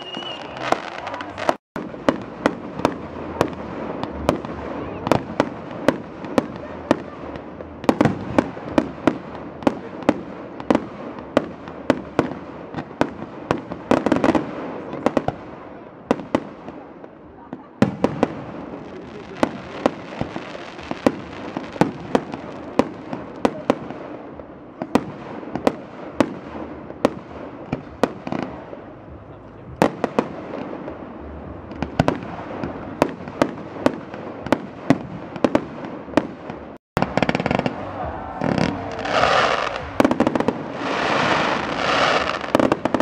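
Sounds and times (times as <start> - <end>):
crackling hiss of fireworks: 0.0 - 43.0.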